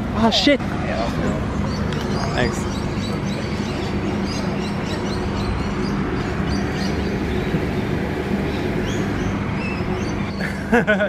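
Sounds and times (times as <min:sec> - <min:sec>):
low even hum: 0:01.3 - 0:10.9
bird chirps: 0:01.6 - 0:10.6.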